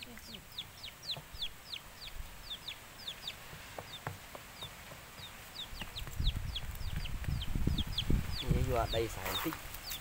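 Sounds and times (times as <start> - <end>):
chick peeping: 0.0 - 10.0.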